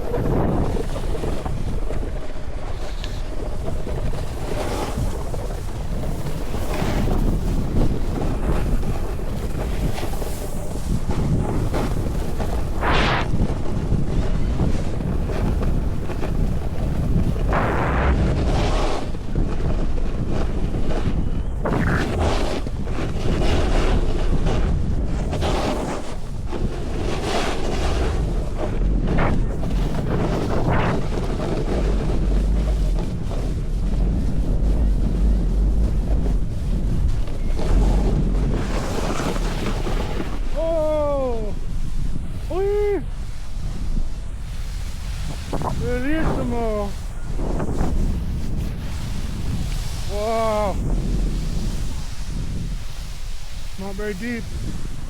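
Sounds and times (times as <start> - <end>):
snowboard sliding across snow: 0.0 - 55.0
wind rushing over microphone: 0.0 - 55.0.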